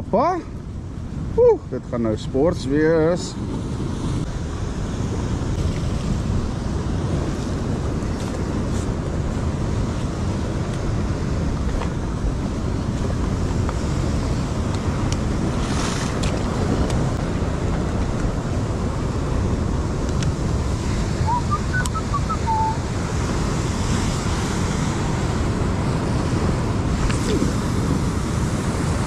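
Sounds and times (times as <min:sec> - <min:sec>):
wind buffeting microphone: 0:00.0 - 0:29.0
surf breaking over rocks: 0:02.7 - 0:29.0.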